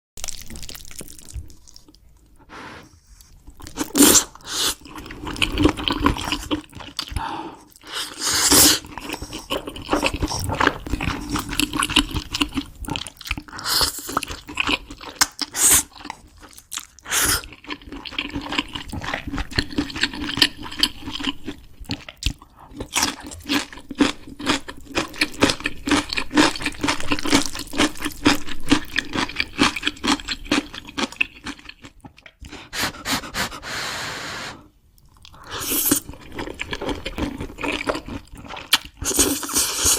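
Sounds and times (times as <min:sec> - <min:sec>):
crunchy food being chewed: 0:00.2 - 0:02.4, 0:03.1 - 0:32.6, 0:35.0 - 0:39.9.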